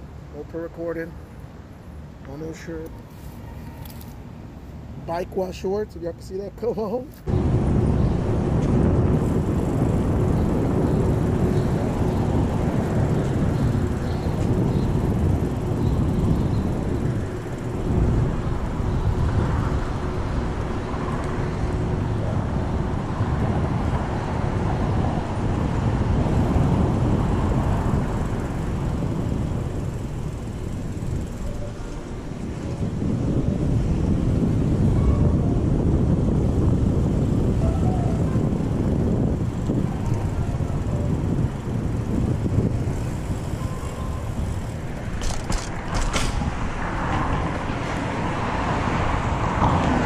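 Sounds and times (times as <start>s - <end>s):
bike rolling noise: 0.0s - 5.7s, 6.9s - 50.0s
wind rumbling on microphone: 7.2s - 50.0s.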